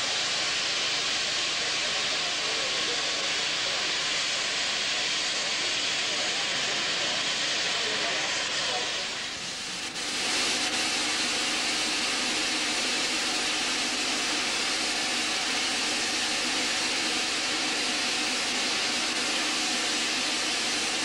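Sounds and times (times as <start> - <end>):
steam locomotive hissing steam: 0.0 - 21.0.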